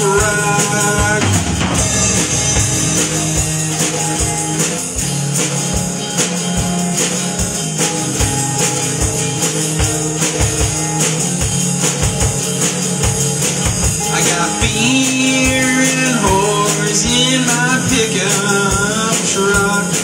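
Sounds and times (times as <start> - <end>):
drums keeping a steady beat: 0.0 - 20.0
electric guitar: 0.0 - 20.0.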